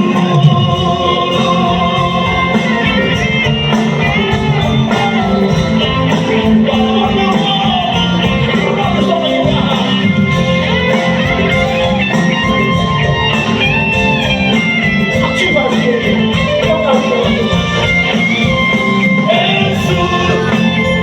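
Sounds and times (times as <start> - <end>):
guitar melody: 0.0 - 21.0
steady drum beat: 0.0 - 21.0.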